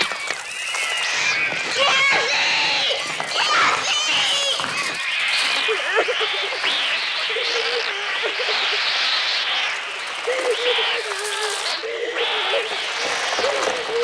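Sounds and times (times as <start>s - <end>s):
birds shrieking: 0.0s - 14.0s
wings beating: 0.0s - 14.0s.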